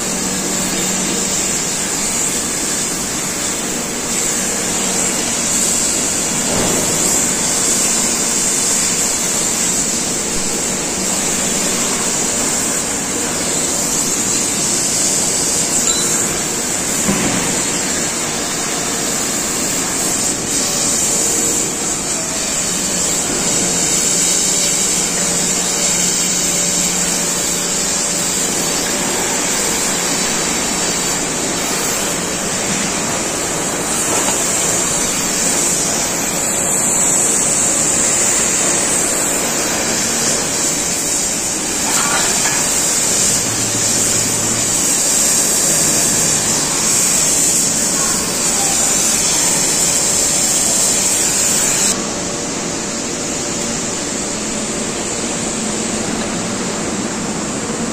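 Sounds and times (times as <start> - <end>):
gas cutting torch hissing: 0.0 - 57.7
industrial yard noise: 0.0 - 57.9.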